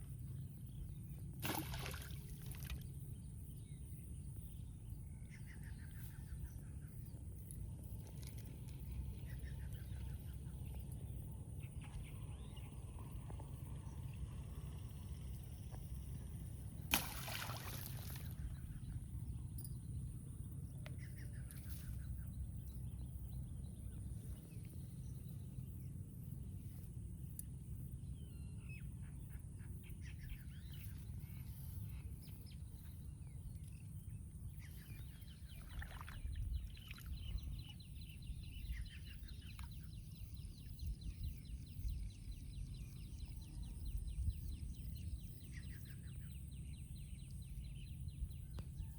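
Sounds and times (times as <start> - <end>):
steady low rumble: 0.0 - 48.9.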